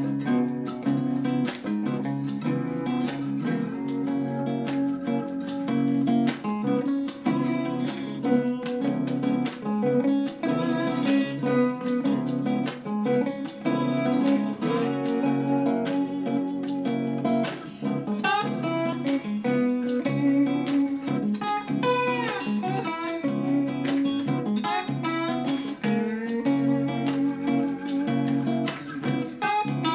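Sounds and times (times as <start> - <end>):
acoustic guitar music through speakers: 0.0 - 29.9.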